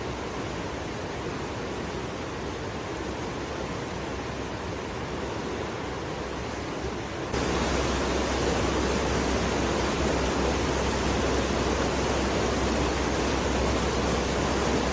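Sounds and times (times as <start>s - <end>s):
flowing water rushing: 0.0s - 14.9s.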